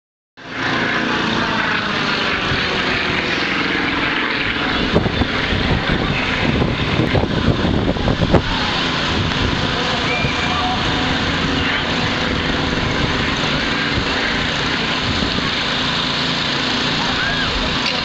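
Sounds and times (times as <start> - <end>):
propeller plane flying overhead: 0.4 - 18.0.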